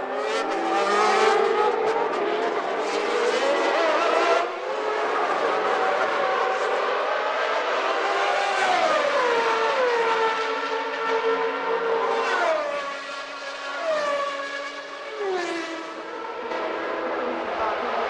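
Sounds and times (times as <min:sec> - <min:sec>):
race car engines passing by: 0:00.0 - 0:18.0.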